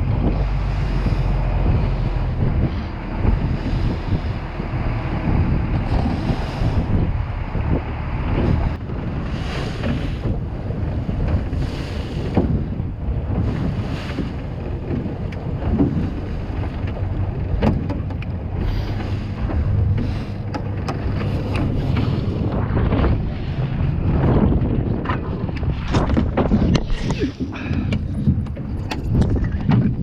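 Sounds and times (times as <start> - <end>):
boat engine rumble: 0.0 - 30.0
water washing past hull: 0.0 - 30.0
wind on microphone: 0.0 - 30.0.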